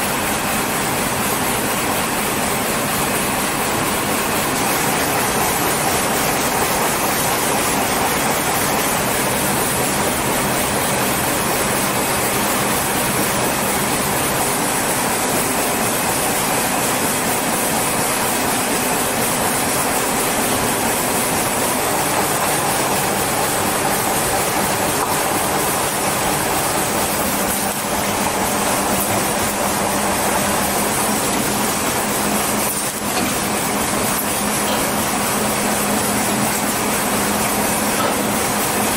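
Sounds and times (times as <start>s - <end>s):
production line machinery running: 0.0s - 38.9s.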